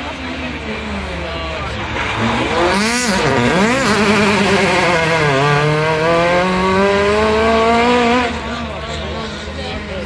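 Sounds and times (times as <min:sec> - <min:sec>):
rally car engine revving: 0:00.1 - 0:09.5.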